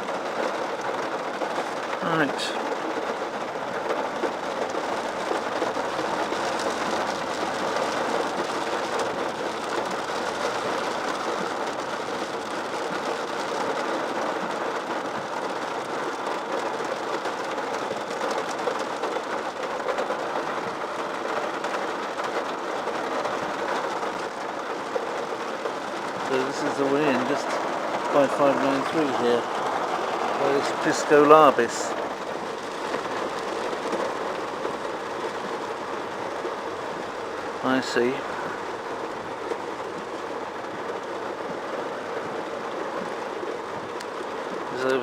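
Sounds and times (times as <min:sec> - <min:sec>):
rain on a car: 0:00.0 - 0:45.0
tyres hissing on wet road: 0:00.0 - 0:45.0.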